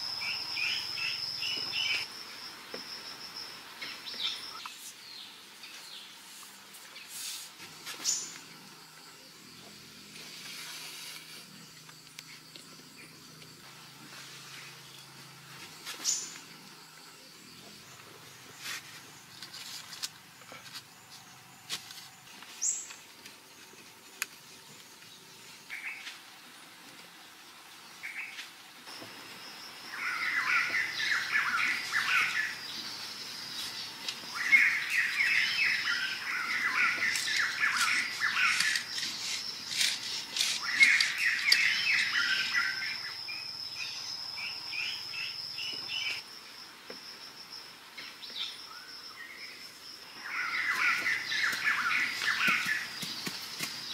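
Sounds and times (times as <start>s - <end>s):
birds chirping: 0.0s - 46.2s, 47.1s - 53.9s
high insect trill: 0.0s - 53.9s.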